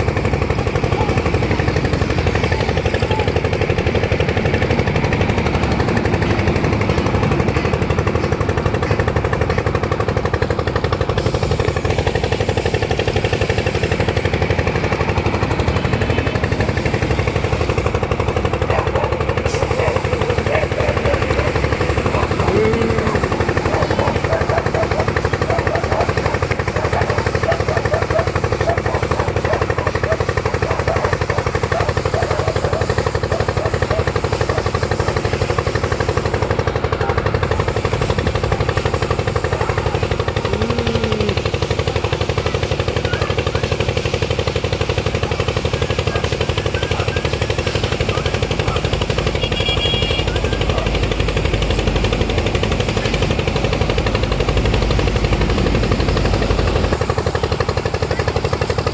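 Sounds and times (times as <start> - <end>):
engine running with knocking pulse: 0.0 - 58.9.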